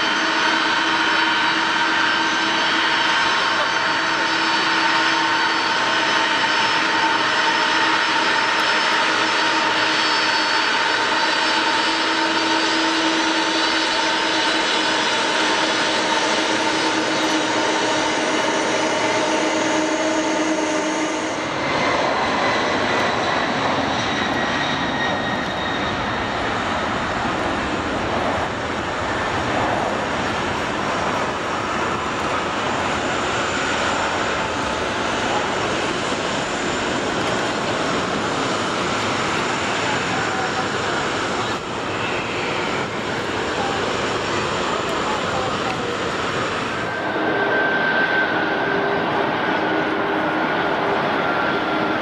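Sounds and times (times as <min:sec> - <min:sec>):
jet airliner engines whining: 0:00.0 - 0:52.0.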